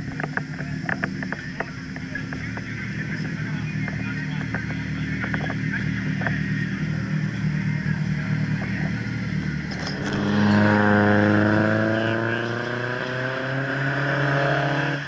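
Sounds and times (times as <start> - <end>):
car engine idling: 0.0 - 13.1
car engine at high revs: 0.0 - 15.0.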